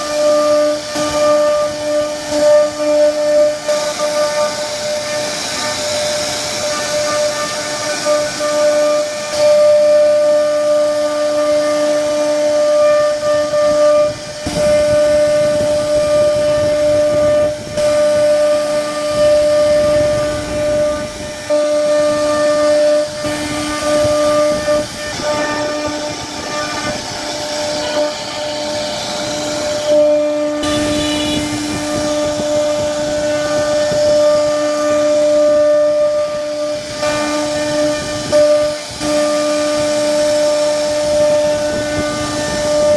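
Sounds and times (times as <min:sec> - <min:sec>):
bit cutting wood hiss: 0:00.0 - 0:42.9
router spindle whining: 0:00.0 - 0:42.9.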